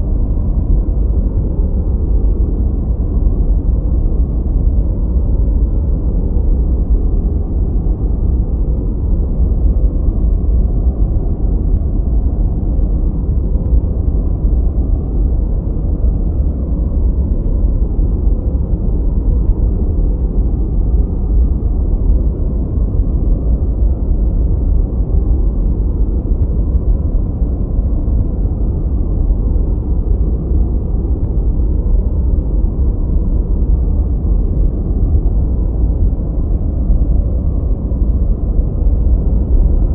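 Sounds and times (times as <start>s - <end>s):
deep muffled noise: 0.0s - 39.9s.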